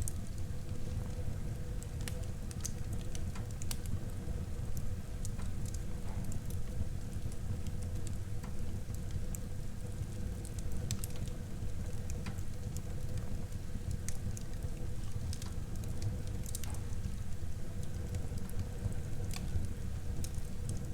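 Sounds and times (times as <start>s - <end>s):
fire rumbling: 0.0s - 20.9s
wood fire crackling and popping: 0.0s - 20.9s.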